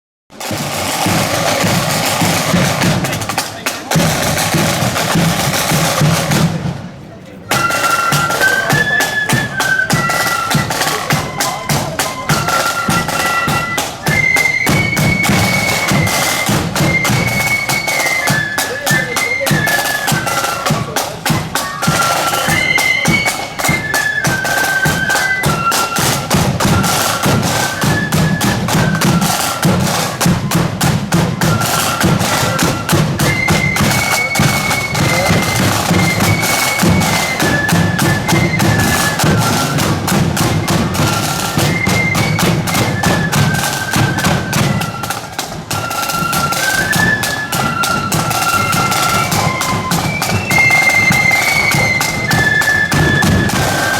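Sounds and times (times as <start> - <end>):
rapid snare drumming: 0.3 - 6.8, 7.5 - 53.9
flutes playing melody: 0.4 - 6.7, 7.4 - 53.9.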